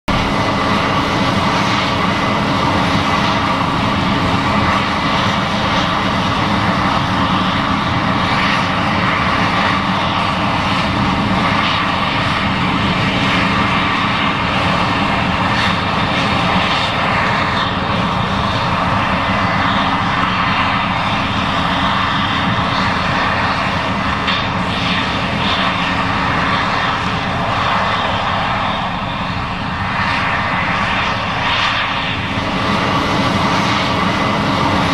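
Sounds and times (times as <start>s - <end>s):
combine harvester droning: 0.1s - 34.9s.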